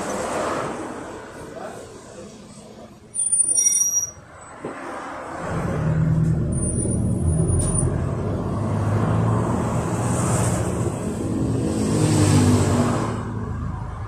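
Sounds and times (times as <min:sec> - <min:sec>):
bus engine: 0:00.0 - 0:14.0
tyre and road noise: 0:00.0 - 0:14.0.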